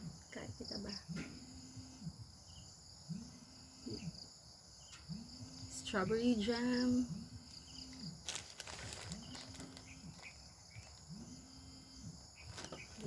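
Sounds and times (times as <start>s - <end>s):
crickets chirring: 0.0s - 13.0s
phone vibrating buzz: 1.0s - 4.1s, 5.1s - 12.6s.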